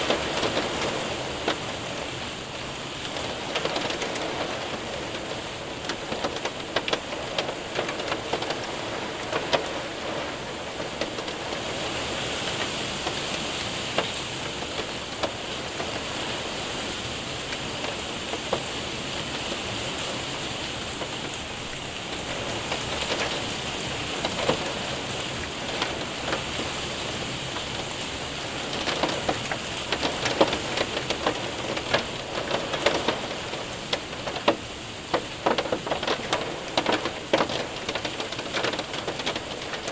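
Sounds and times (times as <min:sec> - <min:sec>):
hailstones ticking: 0:00.0 - 0:39.9
rain hiss on window and roof: 0:00.0 - 0:39.9.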